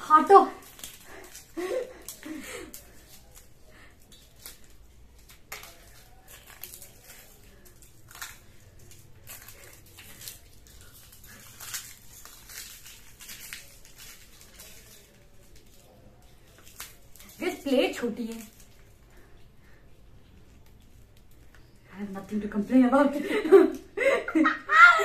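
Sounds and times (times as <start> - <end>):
dried chillies crumbling by hand: 0.0 - 24.0.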